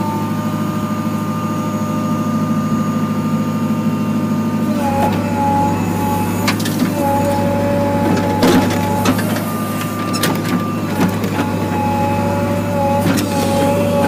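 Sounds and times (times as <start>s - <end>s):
diesel engine running: 0.0s - 14.0s
hydraulic whine: 0.0s - 14.0s.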